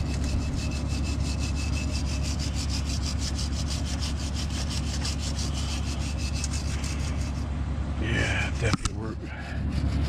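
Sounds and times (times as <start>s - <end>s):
wire brush scrubbing metal: 0.0s - 7.5s, 8.4s - 10.0s
steady low hum: 0.0s - 10.0s.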